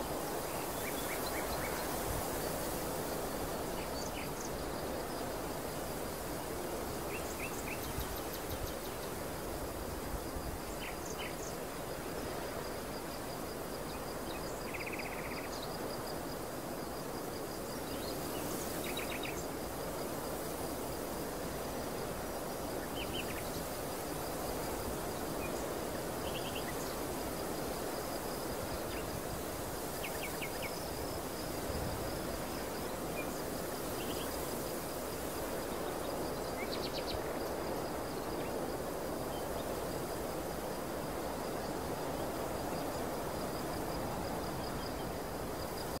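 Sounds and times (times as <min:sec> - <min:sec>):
wind rushing over field: 0:00.0 - 0:46.0.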